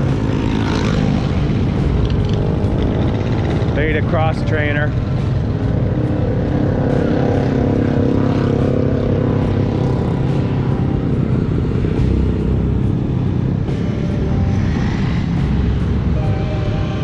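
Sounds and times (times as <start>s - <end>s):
constant low rumble: 0.0s - 17.0s
vehicle engine running: 0.0s - 17.0s.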